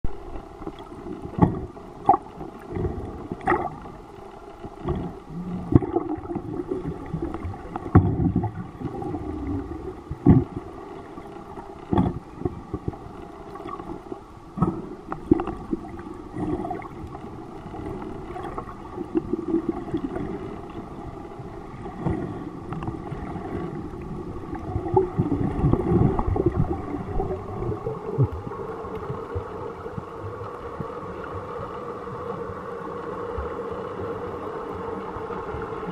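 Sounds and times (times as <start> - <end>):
gurgling water: 0.0 - 35.9
underwater boat engine hum: 0.0 - 35.9.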